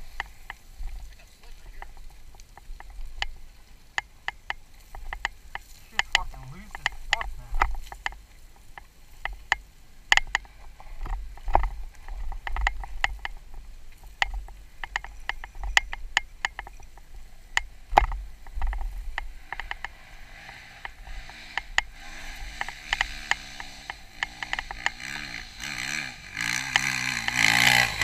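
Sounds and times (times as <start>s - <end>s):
stones crunching under tyres: 0.0s - 28.0s.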